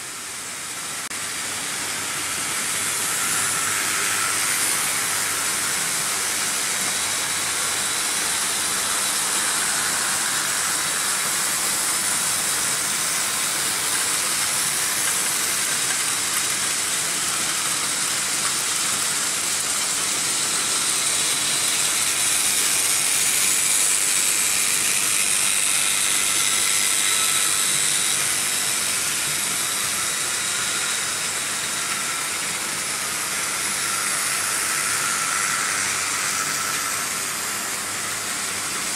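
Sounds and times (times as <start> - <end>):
faint electric motor whine: 0.0 - 38.9
metal wheels hissing on rails: 0.0 - 38.9.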